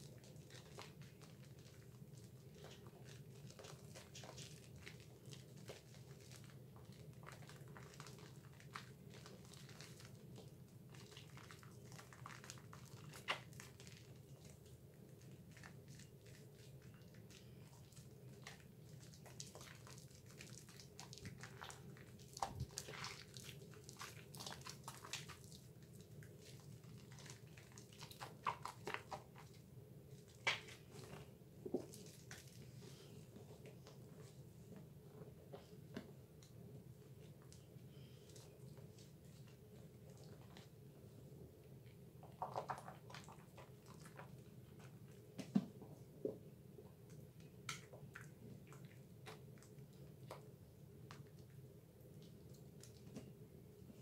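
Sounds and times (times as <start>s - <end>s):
soap lather squishing: 0.0s - 34.4s, 37.1s - 40.9s, 41.7s - 45.6s, 47.0s - 53.4s.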